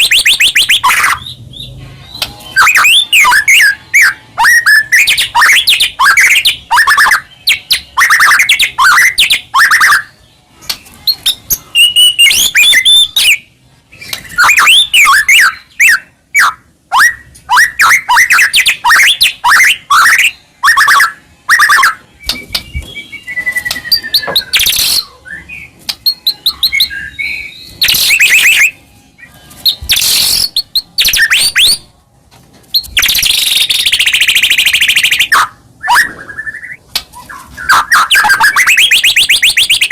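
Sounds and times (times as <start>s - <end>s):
bird singing whistled notes: 0.0s - 10.3s, 11.0s - 31.9s, 32.7s - 39.9s.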